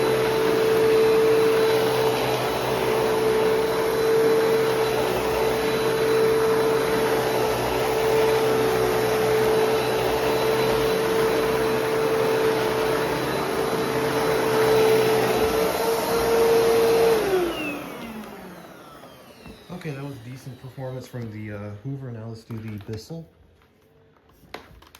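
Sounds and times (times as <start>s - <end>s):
vacuum motor winding down: 0.0s - 21.8s
upright vacuum running: 0.0s - 22.9s.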